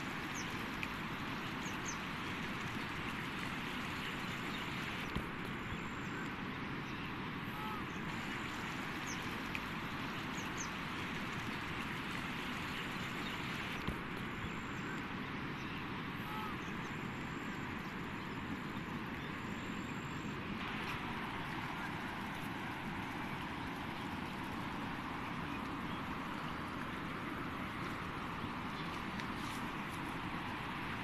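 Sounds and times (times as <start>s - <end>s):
floodwater rushing: 0.0s - 5.9s, 7.4s - 31.0s.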